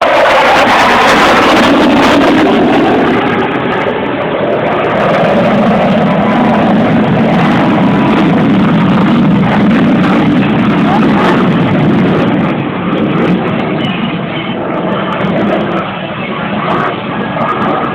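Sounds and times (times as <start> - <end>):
jet engine noise: 0.0 - 17.9.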